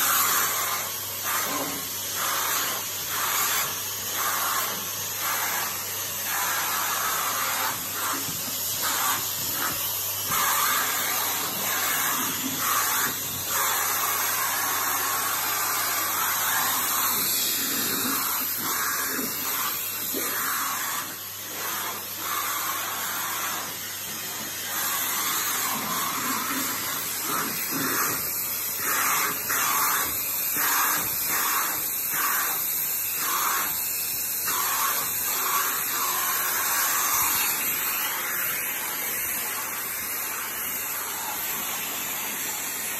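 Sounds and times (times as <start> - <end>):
vacuum cleaner suction hiss: 0.0 - 42.9.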